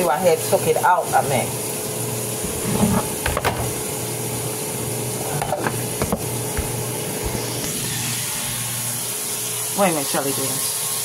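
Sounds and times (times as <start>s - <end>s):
stovetop hiss: 0.0s - 11.0s.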